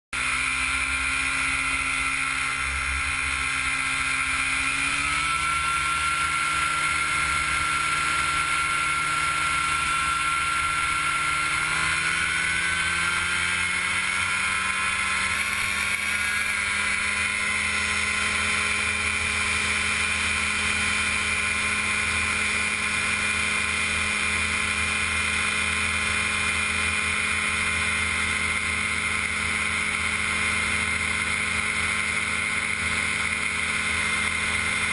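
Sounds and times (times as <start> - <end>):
gyroplane engine and propeller: 0.1 - 34.9.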